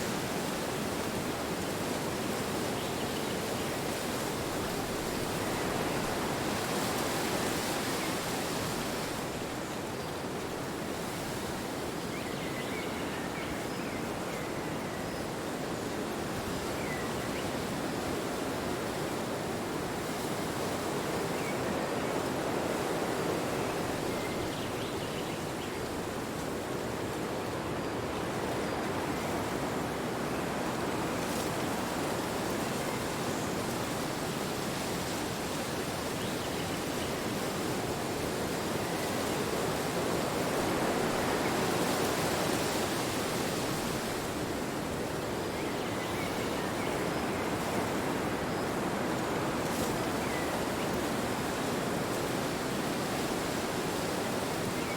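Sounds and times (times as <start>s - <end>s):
wind blowing in gusts: 0.0s - 54.9s.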